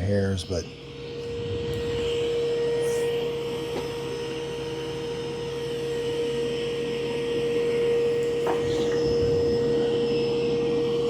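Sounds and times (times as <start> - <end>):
robot vacuum suction fan whine: 0.0 - 11.0.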